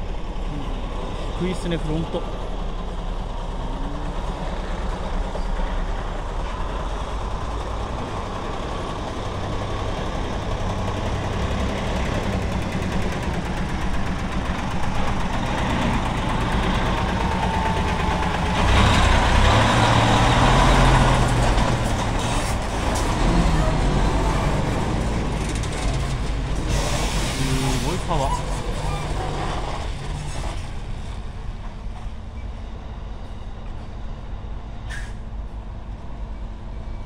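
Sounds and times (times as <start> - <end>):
truck tyres rolling: 0.0 - 32.3
diesel truck engine hum: 0.0 - 37.0.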